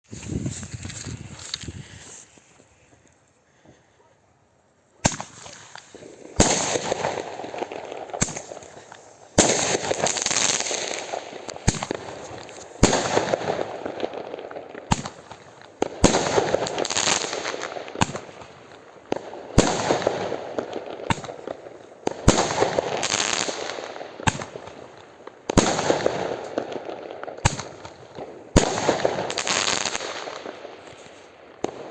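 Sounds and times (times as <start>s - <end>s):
firework bangs: 5.0s - 31.9s.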